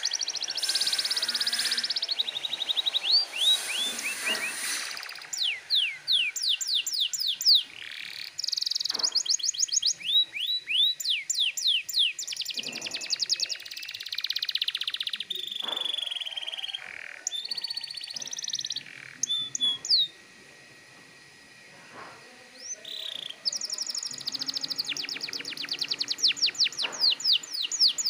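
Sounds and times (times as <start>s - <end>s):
canary singing: 0.0s - 20.2s, 22.5s - 28.0s.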